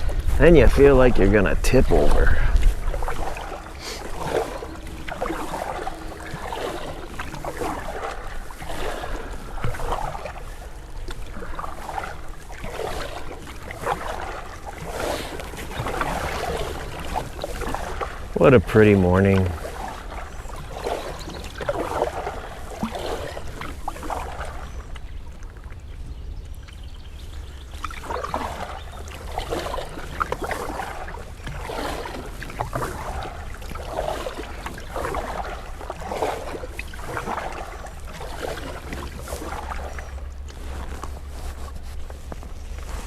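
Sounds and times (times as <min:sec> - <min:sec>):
canoe paddle swishing through water: 0:00.0 - 0:43.0
low wind rumble on microphone: 0:00.0 - 0:43.0.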